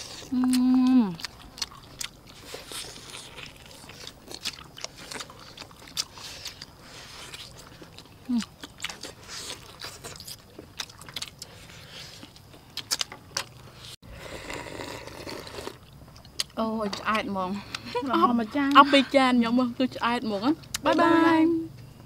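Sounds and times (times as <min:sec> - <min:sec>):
chewing meat off bones: 0:00.0 - 0:18.0.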